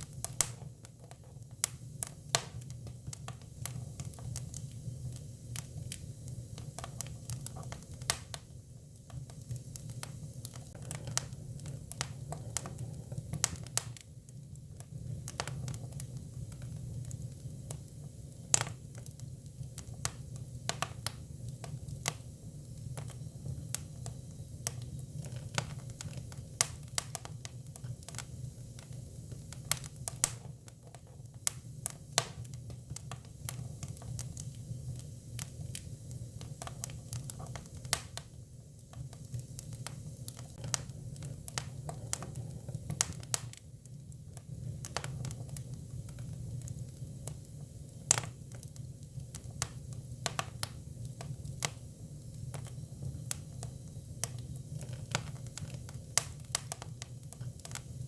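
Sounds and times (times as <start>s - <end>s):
firewood burning and crackling: 0.0s - 58.0s.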